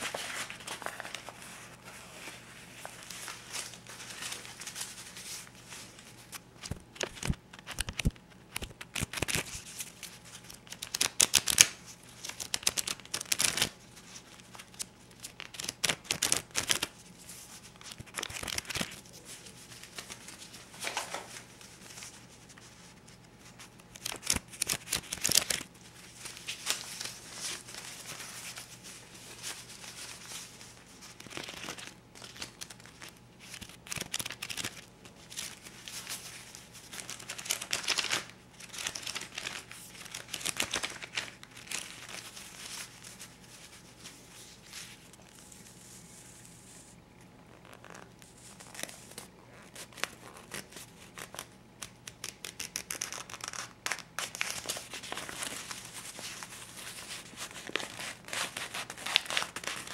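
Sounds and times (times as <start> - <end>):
paper bills crinkling: 0.0 - 17.0, 17.6 - 45.6, 49.8 - 59.9.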